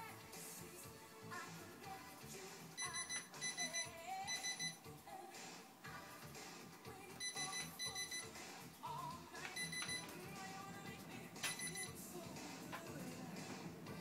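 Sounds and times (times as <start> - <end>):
quiet background music: 0.0 - 14.0.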